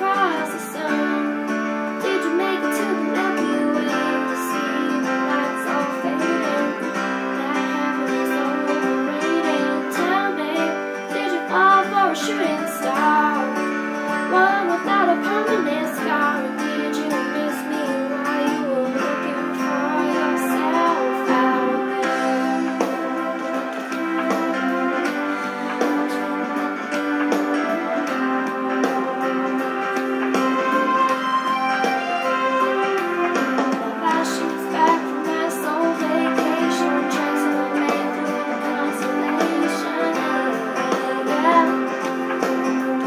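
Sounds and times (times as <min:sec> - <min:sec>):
woman singing: 0:00.0 - 0:28.4, 0:33.6 - 0:43.0
karaoke backing track with guitar: 0:00.0 - 0:43.0.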